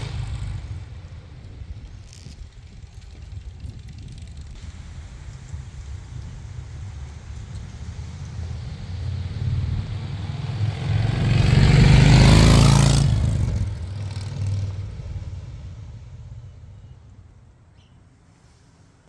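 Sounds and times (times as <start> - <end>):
vehicle engine passing by: 0.0 - 2.4, 3.3 - 17.6.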